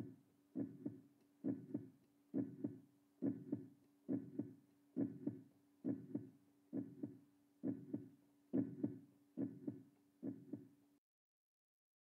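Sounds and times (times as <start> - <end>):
heartbeat thuds: 0.0 - 10.7
faint steady hum: 0.0 - 11.0.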